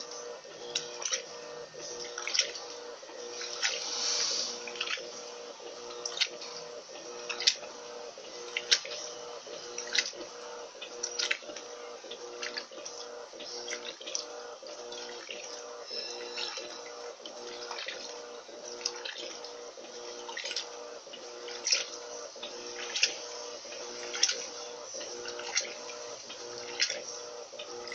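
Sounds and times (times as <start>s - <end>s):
washing machine motor hum: 0.0s - 27.9s
water sloshing and splashing: 0.6s - 7.8s, 8.4s - 27.9s.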